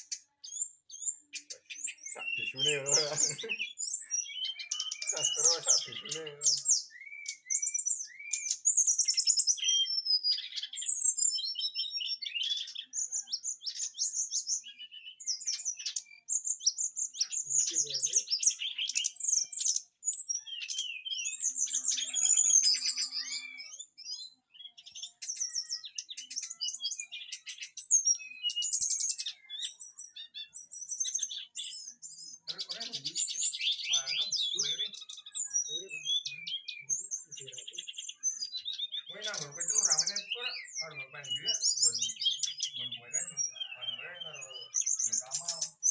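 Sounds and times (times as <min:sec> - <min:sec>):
songbird singing: 0:00.0 - 0:45.9.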